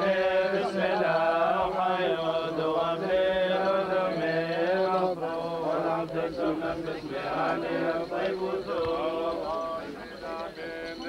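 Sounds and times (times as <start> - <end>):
men chanting together: 0.0 - 11.0.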